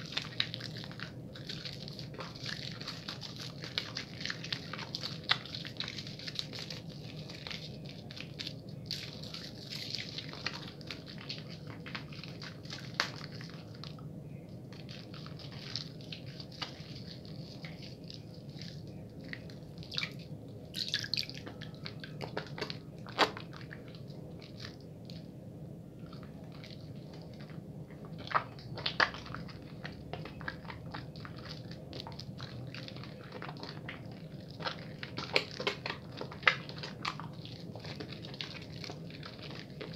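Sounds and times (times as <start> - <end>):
soap lather squishing and crackling: 0.0 - 39.9.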